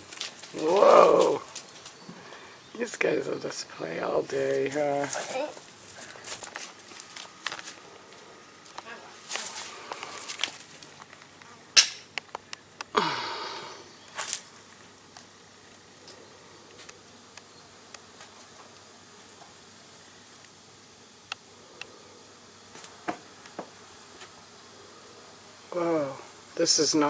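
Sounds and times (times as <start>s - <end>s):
flies buzzing: 0.0s - 27.0s.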